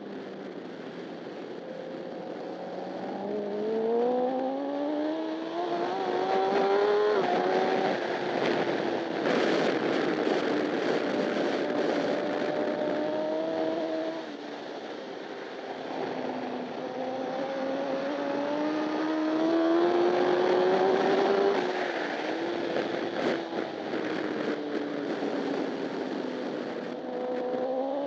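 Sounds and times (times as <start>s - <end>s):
wind noise: 0.0s - 28.0s
motorcycle engine accelerating: 1.7s - 14.6s, 15.9s - 28.0s.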